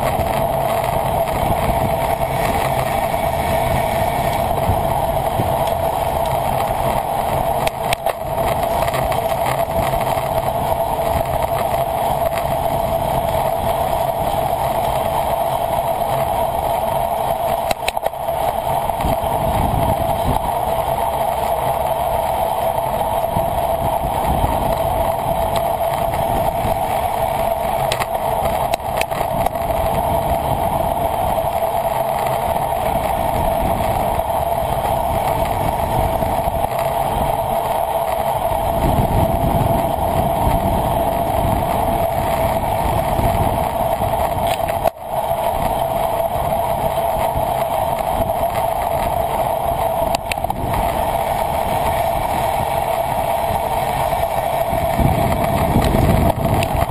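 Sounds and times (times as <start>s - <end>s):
wind and road noise: 0.0s - 56.9s
wind buffeting rumble: 0.0s - 56.9s.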